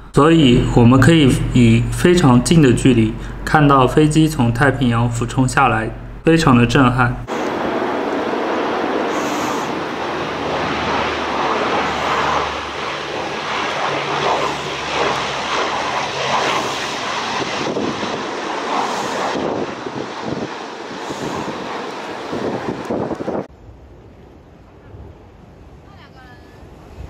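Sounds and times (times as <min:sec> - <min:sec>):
military aircraft passing overhead: 0:00.0 - 0:06.6, 0:07.2 - 0:25.8.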